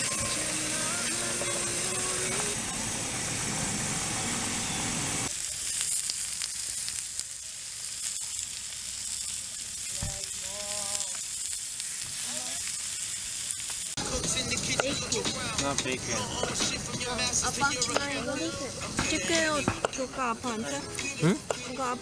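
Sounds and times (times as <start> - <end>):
meat sizzling on grill: 0.0 - 22.0.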